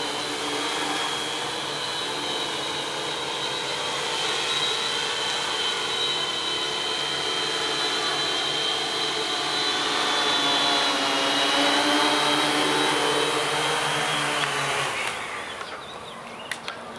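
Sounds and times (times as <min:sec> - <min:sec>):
drones hovering with a whine: 0:00.0 - 0:16.9.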